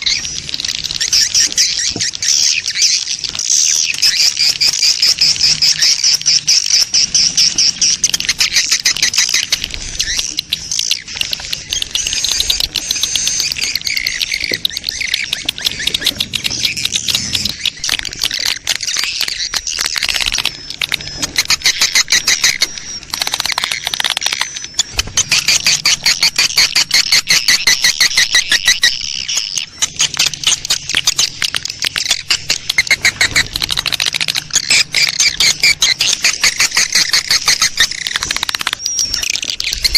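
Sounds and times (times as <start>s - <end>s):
swiftlets chirping and twittering: 0.0s - 39.9s.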